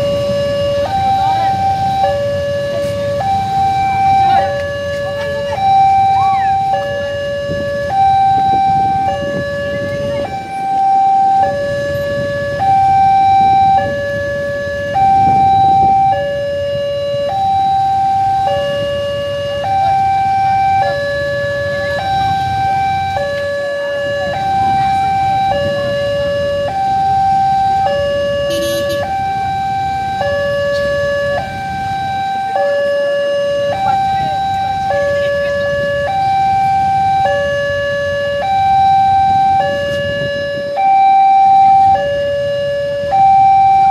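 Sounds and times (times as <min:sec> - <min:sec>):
low road traffic noise: 0:00.0 - 0:43.9
motorbikes and cars rumbling: 0:00.0 - 0:43.9
two-tone level crossing alarm: 0:00.0 - 0:43.9.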